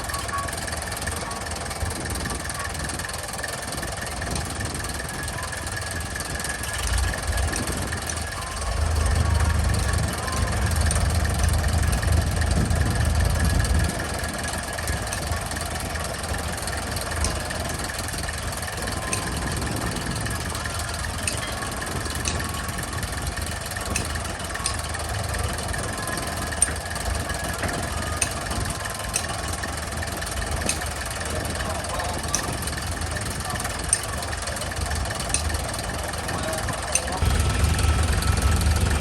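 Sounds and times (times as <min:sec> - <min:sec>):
engine idling: 0:00.0 - 0:39.0.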